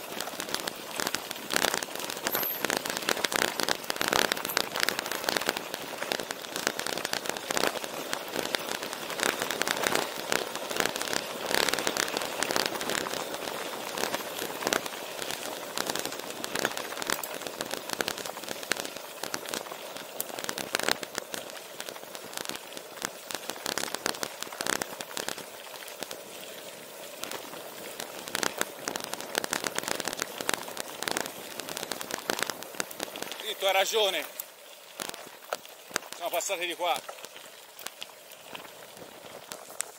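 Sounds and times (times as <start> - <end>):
bike tyres crunching over gravel: 0.0 - 39.9.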